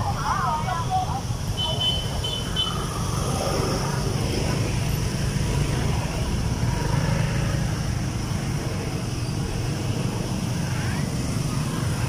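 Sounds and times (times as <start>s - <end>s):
motorbike and scooter engines: 0.0s - 12.0s.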